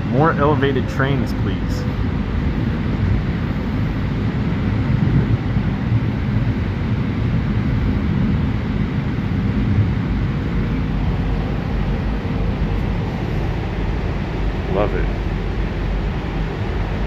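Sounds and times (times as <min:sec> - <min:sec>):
faint steady hum: 0:00.0 - 0:17.0
train wheels rumbling on track: 0:00.0 - 0:17.0.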